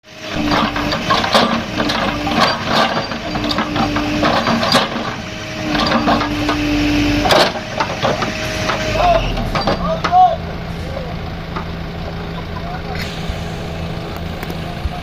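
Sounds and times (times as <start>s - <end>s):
excavator engine: 0.0s - 15.0s.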